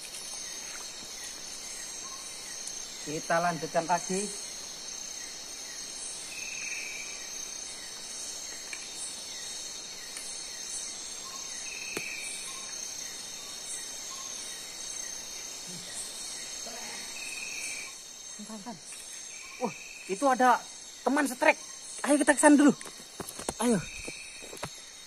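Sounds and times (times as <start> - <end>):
high insect chirp: 0.0 - 25.0
insects trilling: 0.0 - 25.0.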